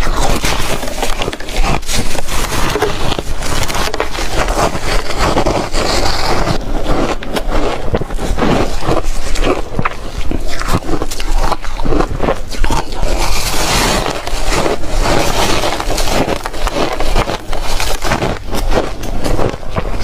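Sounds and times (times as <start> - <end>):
chewing and crunching ice: 0.0 - 20.0.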